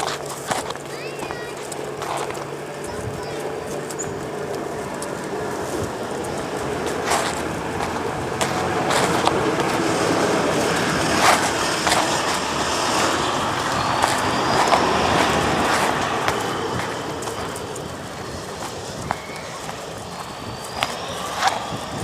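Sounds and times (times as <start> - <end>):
vehicle passing on wet road: 3.5 - 22.0.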